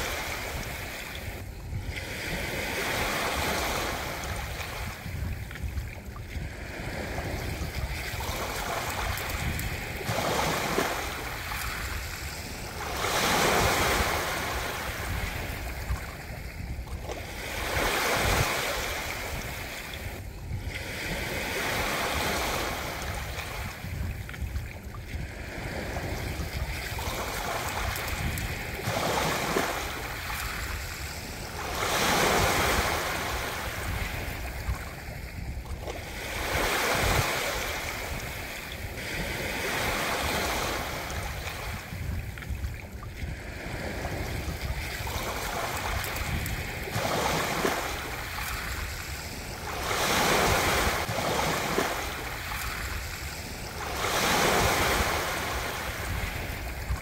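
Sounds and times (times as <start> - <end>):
low rumble of sea: 0.0 - 57.0
ocean waves breaking: 0.0 - 57.0.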